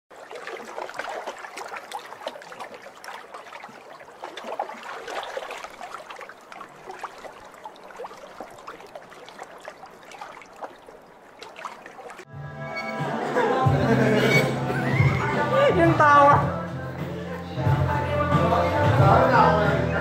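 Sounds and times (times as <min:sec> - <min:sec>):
pool water lapping and trickling: 0:00.1 - 0:19.8.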